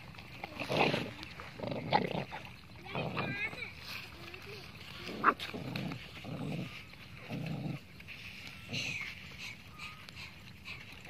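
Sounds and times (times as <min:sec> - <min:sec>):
puppies eating: 0:00.0 - 0:11.0.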